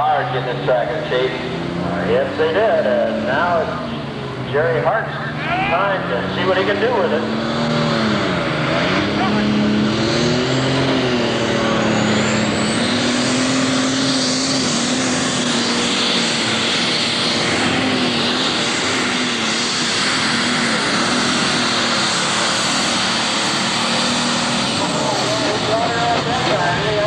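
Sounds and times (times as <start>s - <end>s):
diesel engine running at high revs: 0.0s - 27.0s.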